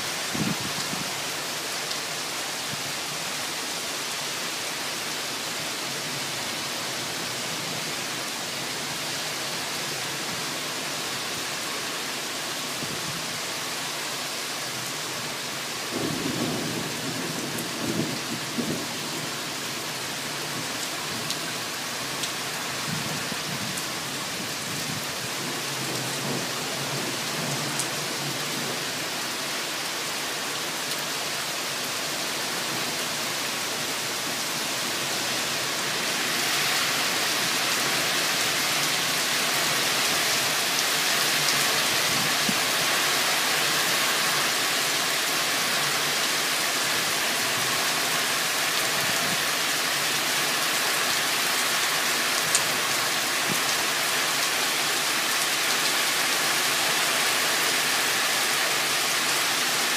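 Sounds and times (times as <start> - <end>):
rain pouring: 0.0 - 59.9.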